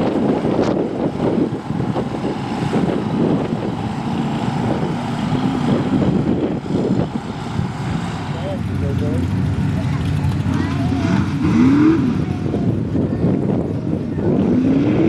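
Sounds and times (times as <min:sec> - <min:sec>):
truck engine running loudly: 0:00.0 - 0:15.0.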